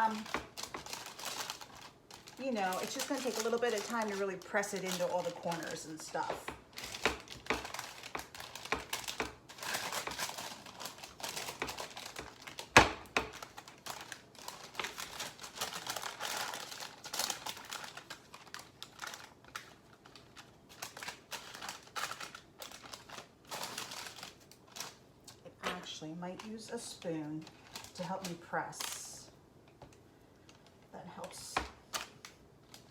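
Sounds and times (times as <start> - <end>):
parchment paper crinkling: 0.0 - 29.1.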